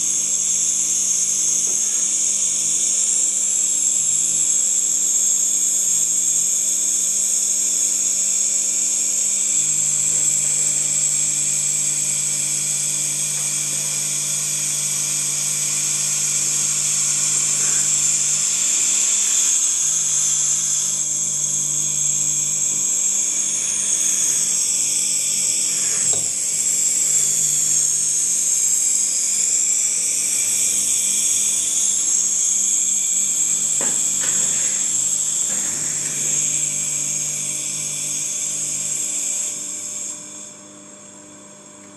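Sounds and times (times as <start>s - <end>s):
compressor whining and humming: 0.0s - 41.9s.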